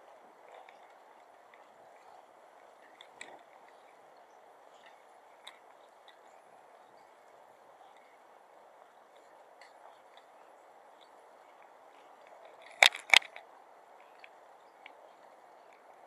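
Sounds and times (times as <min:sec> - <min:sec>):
faint ticks: 0:00.0 - 0:16.0
steady background hum: 0:00.0 - 0:16.0.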